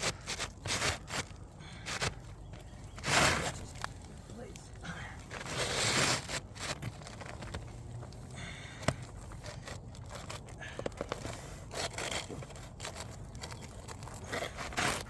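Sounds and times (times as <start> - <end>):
roofing shingle scraping: 0.0 - 15.0.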